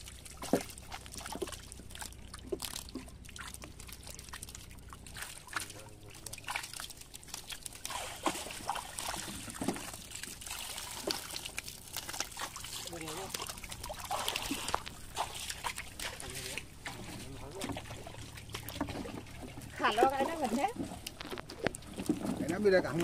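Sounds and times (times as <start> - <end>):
water trickling and dripping: 0.0 - 23.0
wet fish slapping: 0.0 - 23.0.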